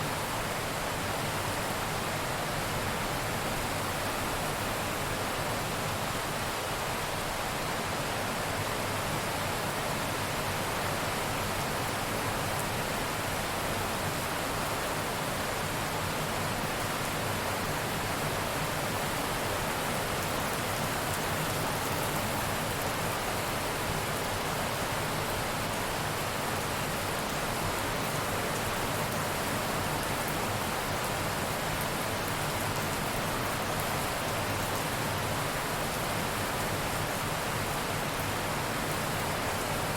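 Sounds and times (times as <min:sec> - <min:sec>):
heavy steady rain: 0:00.0 - 0:39.9.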